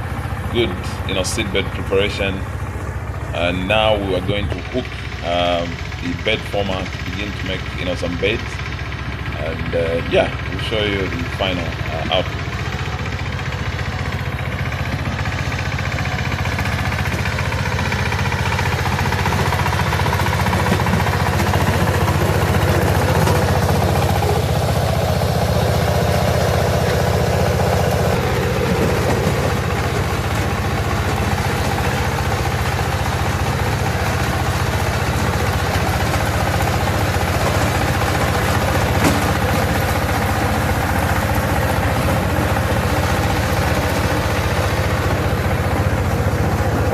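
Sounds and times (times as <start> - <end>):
walking tractor engine running: 0.0 - 46.9.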